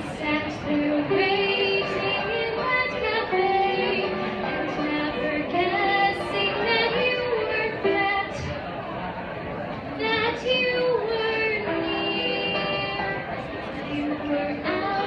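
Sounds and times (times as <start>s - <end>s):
girl singing: 0.0s - 8.4s, 10.0s - 13.2s, 14.2s - 15.0s.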